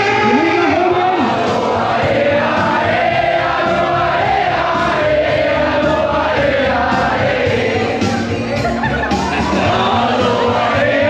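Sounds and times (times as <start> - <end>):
crowd singing along: 0.0 - 11.0
loud music: 0.0 - 11.0.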